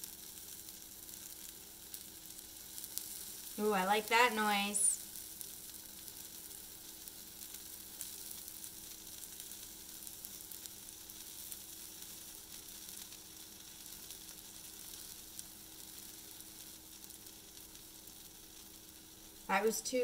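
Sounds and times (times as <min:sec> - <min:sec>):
faint steady hum: 0:00.0 - 0:20.0
pancake sizzling in a pan: 0:00.0 - 0:20.0.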